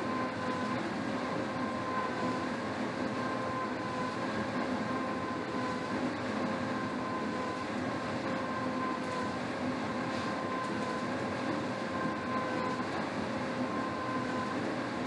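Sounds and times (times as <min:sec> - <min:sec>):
rowing machine fan whirring: 0:00.0 - 0:15.0
steady hum: 0:00.0 - 0:15.0.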